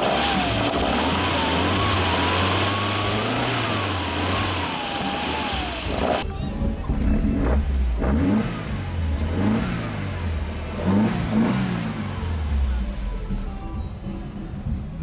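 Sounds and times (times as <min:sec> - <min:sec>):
car engine revving: 0:00.0 - 0:13.5.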